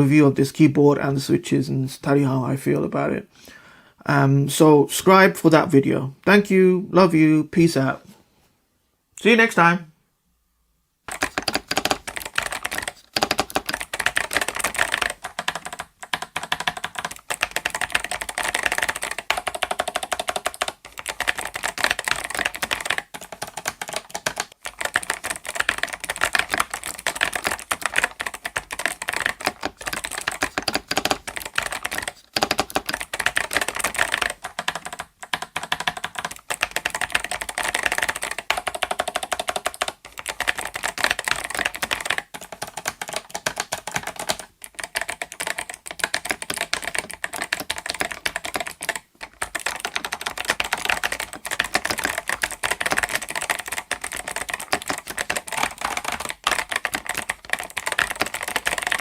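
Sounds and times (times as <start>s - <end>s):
mechanical keyboard typing: 11.1s - 59.0s.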